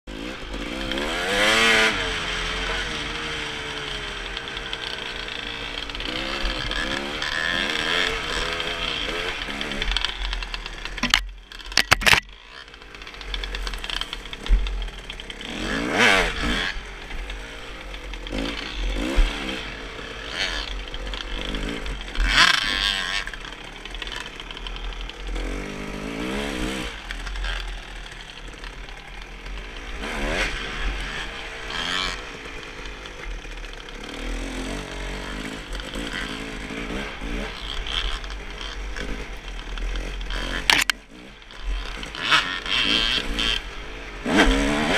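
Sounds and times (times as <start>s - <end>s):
dirt bike engine revving: 0.1s - 44.9s.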